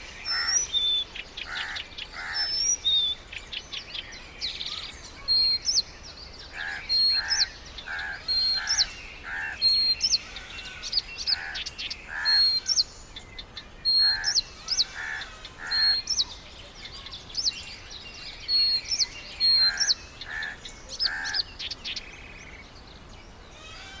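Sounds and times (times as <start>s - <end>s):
lower harsh bird calls: 0.0s - 24.0s.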